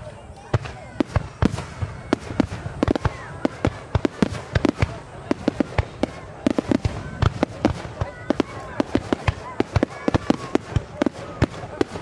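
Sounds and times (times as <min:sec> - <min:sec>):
firework shells exploding: 0:00.5 - 0:12.0.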